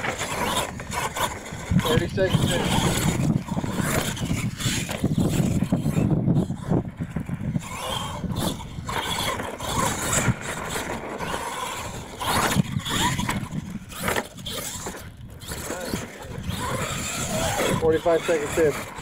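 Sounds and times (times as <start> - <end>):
toy truck motor whining: 0.0 - 19.0.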